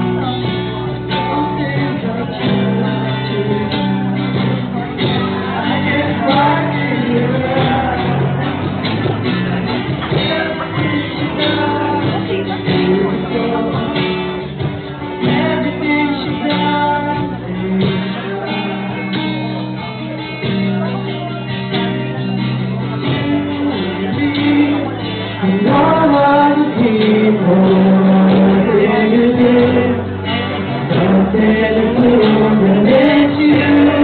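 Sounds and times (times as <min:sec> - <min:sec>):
live band playing and singing: 0:00.0 - 0:34.0.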